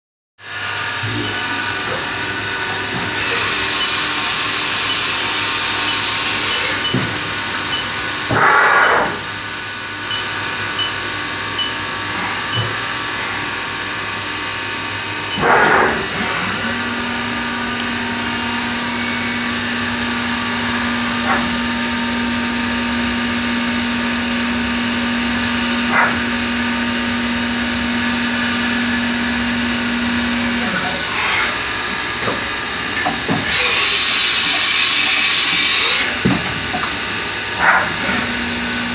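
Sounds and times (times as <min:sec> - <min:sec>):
milling machine hum and whine: 0:00.4 - 0:38.9.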